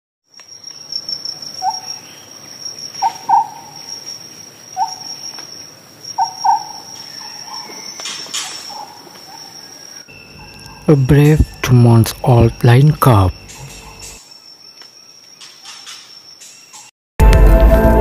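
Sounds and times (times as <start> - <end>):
insects trilling: 0.3 - 16.9.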